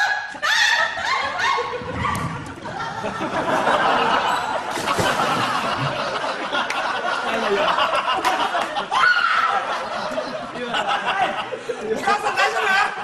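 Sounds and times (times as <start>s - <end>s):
studio audience laughing: 0.3s - 13.0s.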